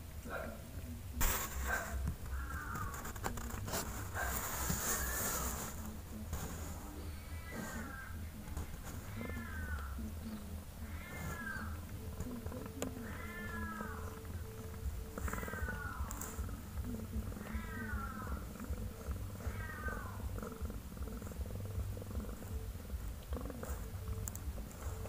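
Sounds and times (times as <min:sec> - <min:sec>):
cat purring: 0:00.0 - 0:25.0
kittens mewing: 0:01.2 - 0:25.0.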